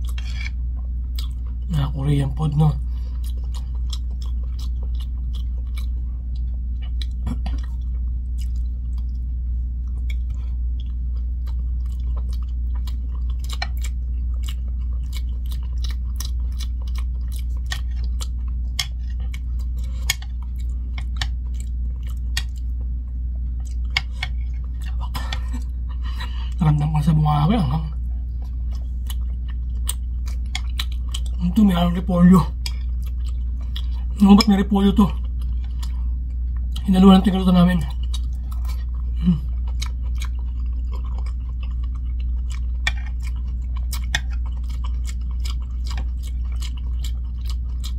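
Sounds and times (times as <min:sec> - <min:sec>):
person chewing: 0:00.0 - 0:47.9
steady low hum: 0:00.0 - 0:47.9.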